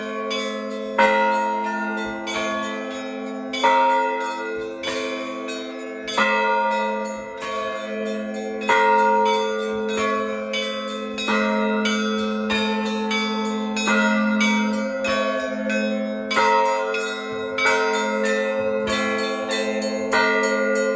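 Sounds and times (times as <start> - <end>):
deep church bell ringing: 0.0 - 20.9
smaller bells ringing: 0.0 - 20.9.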